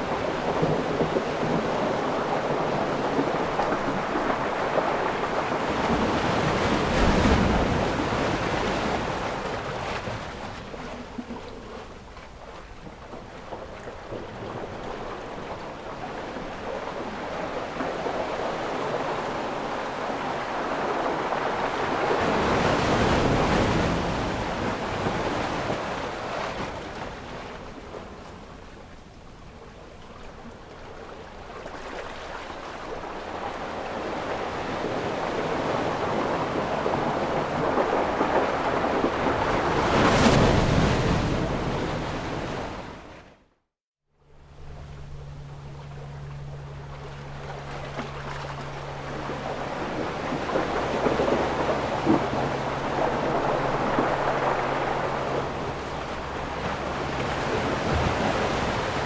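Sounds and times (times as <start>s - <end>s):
sea waves breaking: 0.0s - 43.5s, 44.5s - 59.0s.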